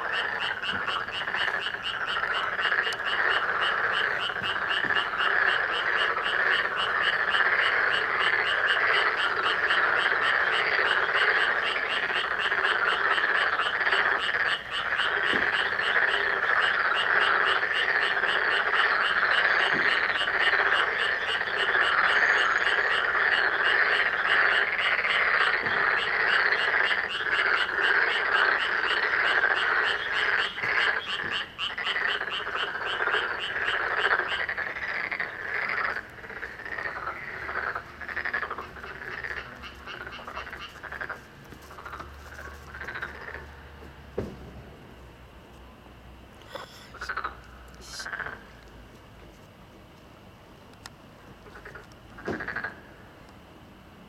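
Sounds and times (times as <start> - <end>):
fast short repeated frog calls: 0.0 - 43.5, 46.5 - 48.5
chorus of frogs croaking: 0.0 - 43.9, 46.4 - 48.8, 51.4 - 53.1.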